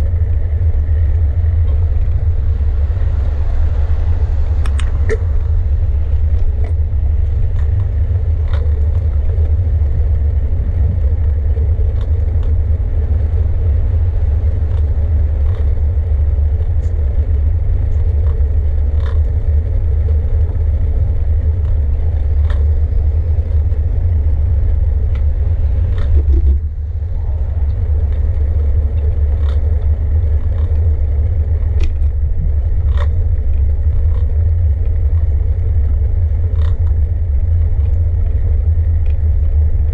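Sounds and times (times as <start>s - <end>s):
bicycle riding rumble: 0.0s - 39.9s
small clicks and rattles: 6.2s - 26.6s, 27.6s - 39.9s.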